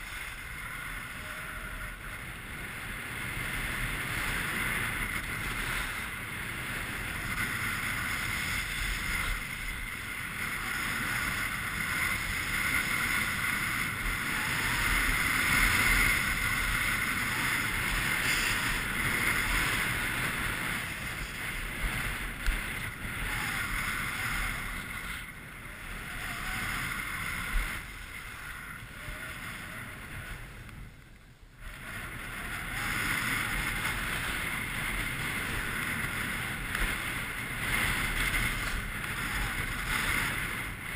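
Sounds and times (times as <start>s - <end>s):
wind rushing over microphone: 0.0s - 40.9s
skis scraping on packed snow: 1.9s - 30.7s, 33.0s - 40.9s.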